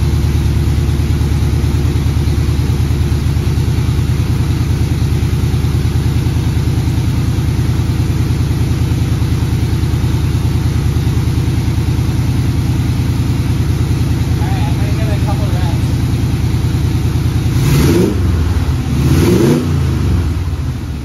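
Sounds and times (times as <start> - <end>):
car engine idling quietly: 0.0 - 17.6.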